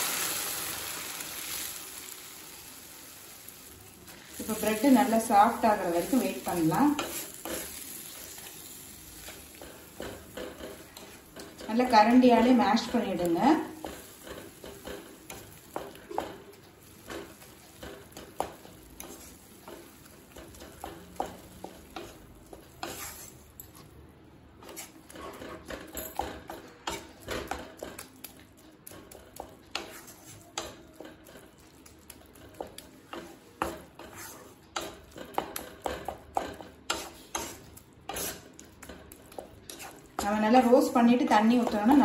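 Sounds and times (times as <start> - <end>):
spatula mashing bread: 4.1 - 23.5, 24.6 - 42.0
spatula scraping and tapping pan: 4.1 - 23.5, 24.6 - 42.0.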